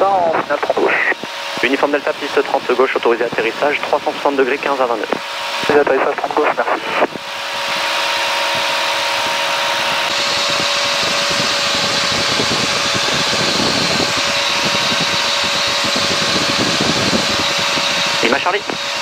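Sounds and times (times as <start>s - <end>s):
aircraft engine and propeller: 0.0s - 19.0s
rushing airflow: 0.0s - 19.0s
steady hum: 0.0s - 19.0s.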